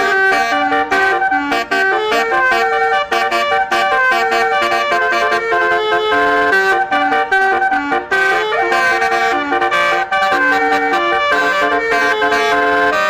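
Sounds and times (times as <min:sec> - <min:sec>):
multi-tone air horn playing tune: 0:00.0 - 0:13.0.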